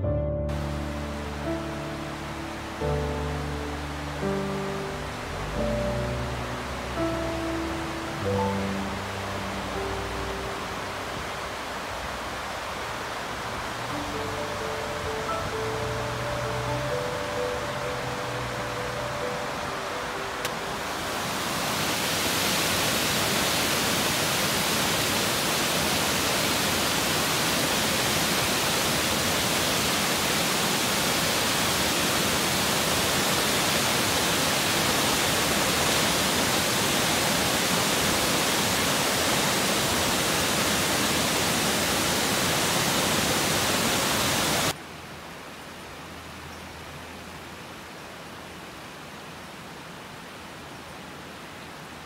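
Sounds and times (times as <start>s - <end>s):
waterfall rushing: 0.0s - 52.0s
steady hiss: 0.5s - 52.0s.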